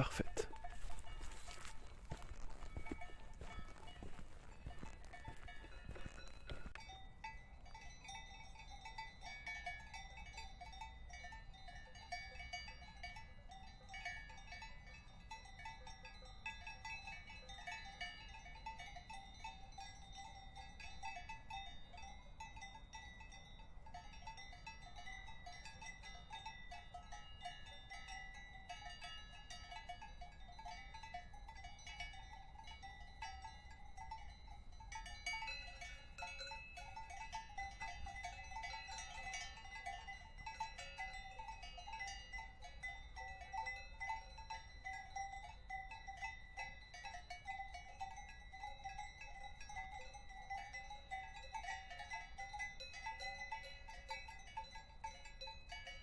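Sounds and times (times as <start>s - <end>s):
cowbells clanking: 0.0s - 56.0s.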